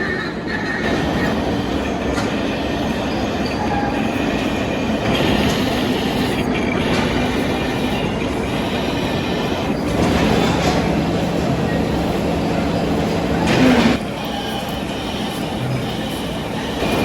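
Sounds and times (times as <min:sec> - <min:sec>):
high squeal of cutting tool: 0:00.0 - 0:17.0
metal lathe grinding: 0:00.6 - 0:17.0.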